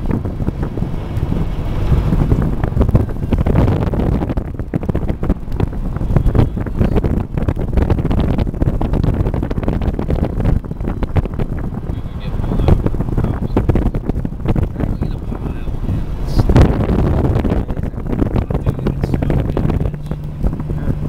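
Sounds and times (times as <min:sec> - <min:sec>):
vehicle rumbling on snowy road: 0:00.0 - 0:21.0
wind buffeting microphone: 0:00.0 - 0:21.0.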